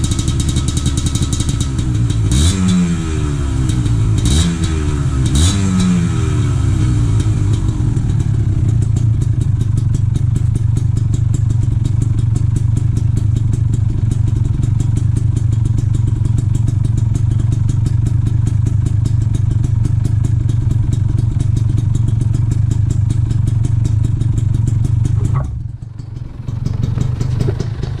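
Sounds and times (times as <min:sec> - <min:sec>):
motorcycle engine crackling exhaust: 0:00.0 - 0:28.0.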